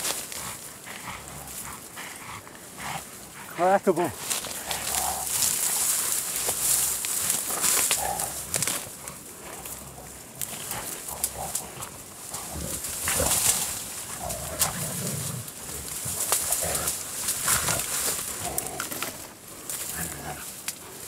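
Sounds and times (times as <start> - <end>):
animal cries and growls: 0.0 - 21.0
rustling and crackling stalks: 0.0 - 21.0.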